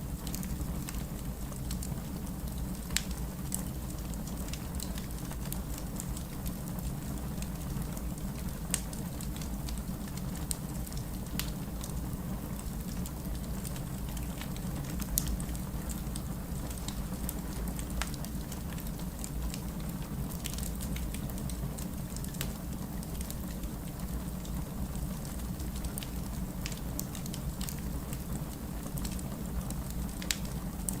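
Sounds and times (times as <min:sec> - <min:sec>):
fireplace crackling: 0:00.0 - 0:31.0
steady rain: 0:00.0 - 0:31.0.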